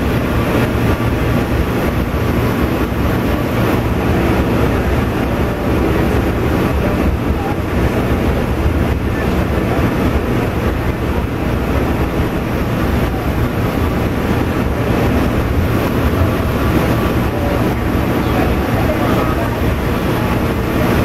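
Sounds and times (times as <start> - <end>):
train engine drone: 0.0 - 21.0
wheels rumbling on rails: 0.0 - 21.0.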